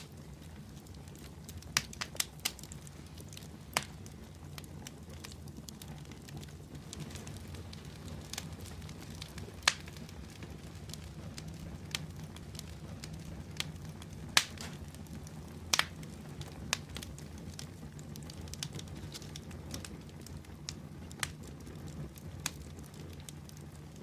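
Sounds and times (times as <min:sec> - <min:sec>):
fire crackling in a fireplace: 0:00.0 - 0:24.0.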